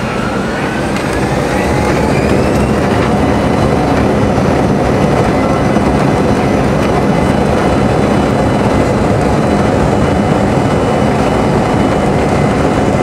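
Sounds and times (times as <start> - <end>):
engine and wheels rumbling: 0.0 - 13.0
jet engine whine: 0.0 - 13.0.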